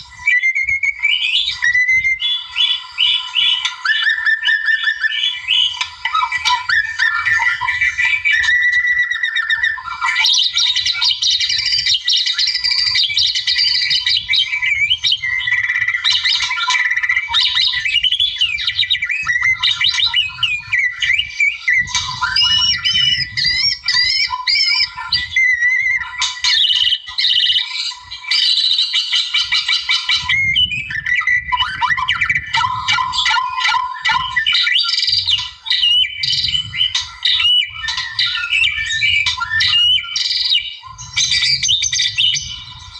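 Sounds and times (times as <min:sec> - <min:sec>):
bird singing whistles and trills: 0:00.0 - 0:42.9.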